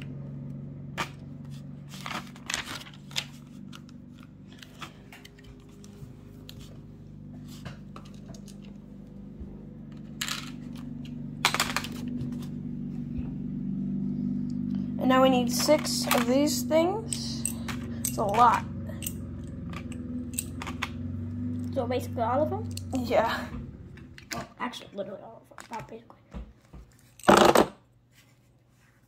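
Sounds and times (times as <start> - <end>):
steady low hum: 0.0 - 25.3.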